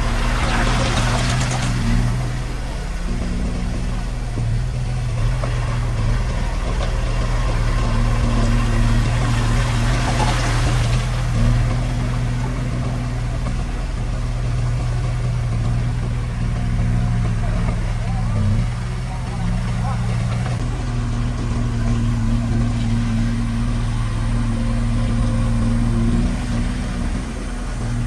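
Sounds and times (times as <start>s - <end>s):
diesel engine low throb: 0.0s - 28.0s.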